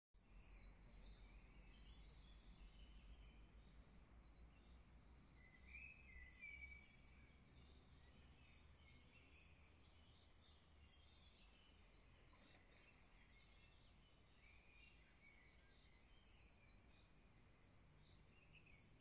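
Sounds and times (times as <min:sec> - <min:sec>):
distant songbirds singing: 0:00.2 - 0:19.0.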